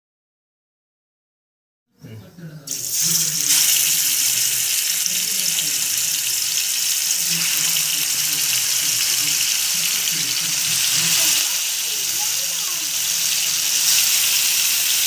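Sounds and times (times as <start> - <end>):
fish frying in hot oil: 2.7 - 15.0.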